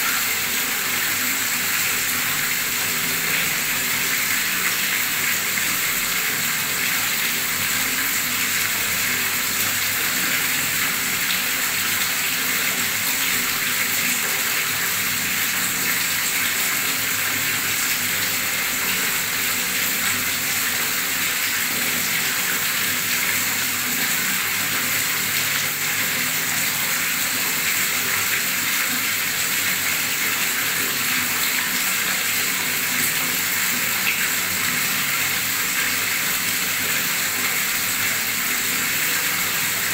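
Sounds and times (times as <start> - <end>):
tap water pouring into pool: 0.0 - 39.9.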